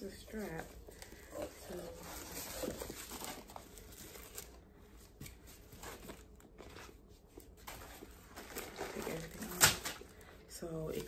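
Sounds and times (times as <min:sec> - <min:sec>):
paper and plastic wrapping rustling: 0:00.0 - 0:11.0.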